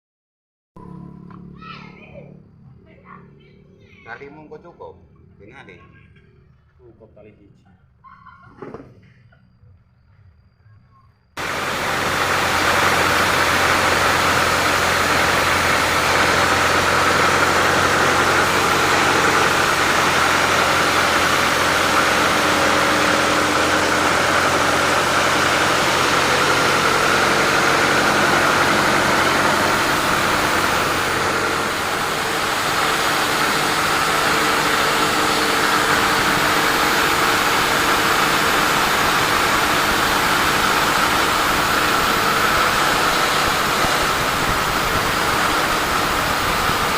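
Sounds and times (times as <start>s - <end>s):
sawmill machinery noise: 0.8s - 7.4s, 11.4s - 46.9s
low engine hum: 0.8s - 8.0s, 9.0s - 46.9s.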